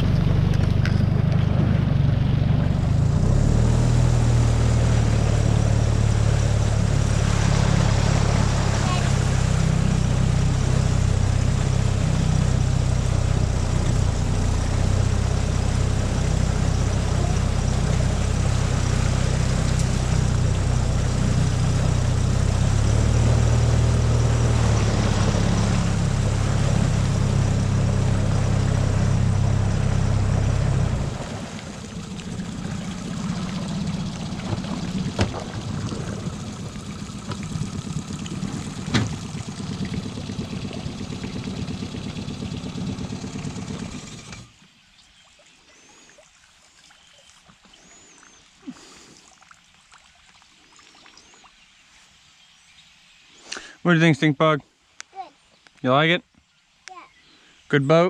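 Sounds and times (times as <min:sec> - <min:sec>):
outboard motor running: 0:00.0 - 0:44.8, 0:47.5 - 0:49.2.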